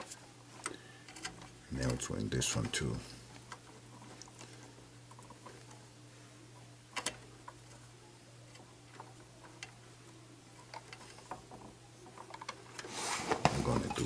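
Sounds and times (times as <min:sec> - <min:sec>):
steady low hum: 0:00.0 - 0:14.0
wires clicking and rustling: 0:00.0 - 0:14.0.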